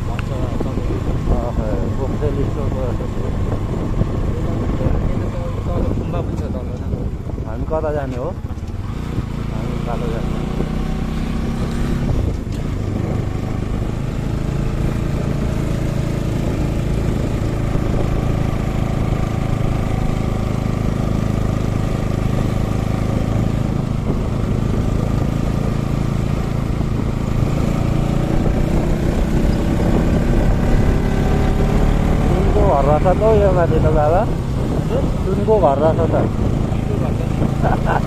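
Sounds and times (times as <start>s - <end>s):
wind on microphone: 0.0s - 9.5s, 10.4s - 38.0s
motorcycle engine running: 0.0s - 38.0s
road rumble: 0.0s - 38.0s.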